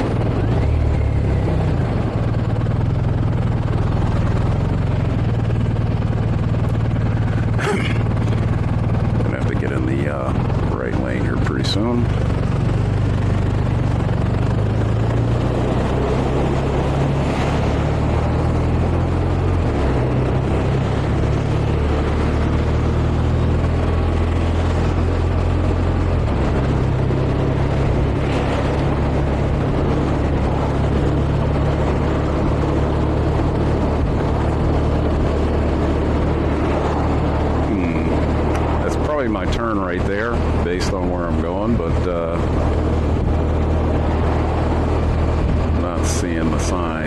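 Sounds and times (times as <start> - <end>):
motorcycle engine running: 0.0 - 47.0
wind and road noise: 0.0 - 47.0.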